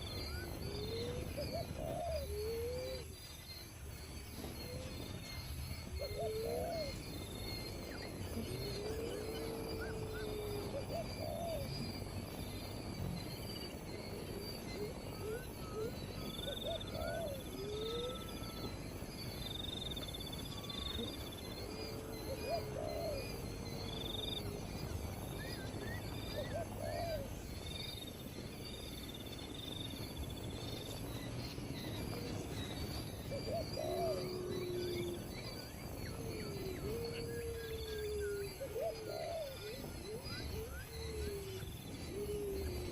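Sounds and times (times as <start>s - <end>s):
steady background hiss: 0.0s - 42.9s
whistled bird trills and chirps: 0.0s - 42.9s.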